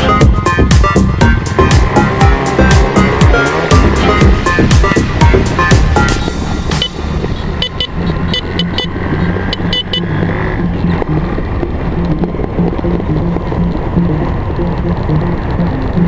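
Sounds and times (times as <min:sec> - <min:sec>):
background music: 0:00.0 - 0:16.0
motorcycle and quad engines: 0:00.0 - 0:16.0.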